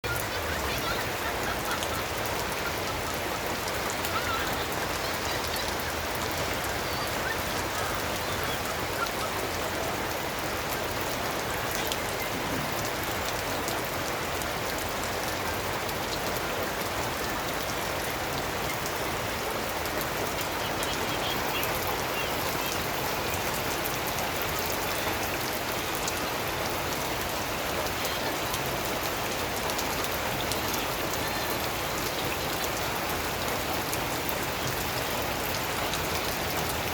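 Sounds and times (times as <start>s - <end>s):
rain pattering on surfaces: 0.0s - 36.9s.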